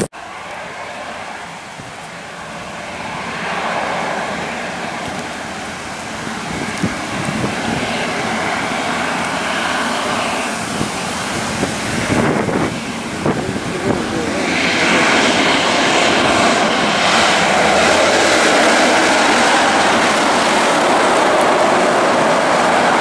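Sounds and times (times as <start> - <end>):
gusty wind buffeting microphone: 0.0 - 23.0
wind in trees: 0.0 - 23.0.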